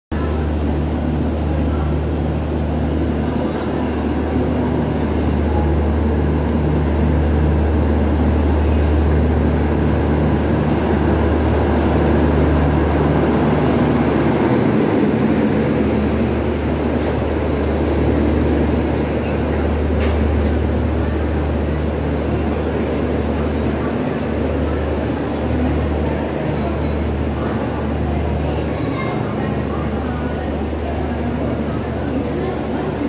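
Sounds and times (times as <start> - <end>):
train coaches rolling past: 0.1 - 33.0.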